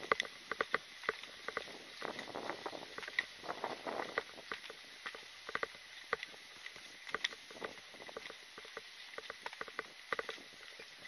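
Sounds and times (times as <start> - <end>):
gear clicking and rattling: 0.0 - 11.0.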